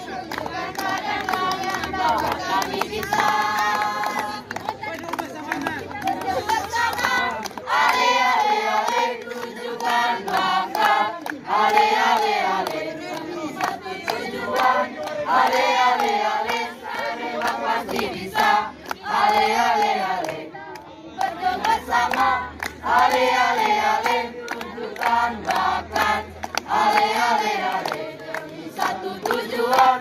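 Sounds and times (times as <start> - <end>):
teenagers singing in chorus: 0.0 - 4.5, 6.0 - 30.0.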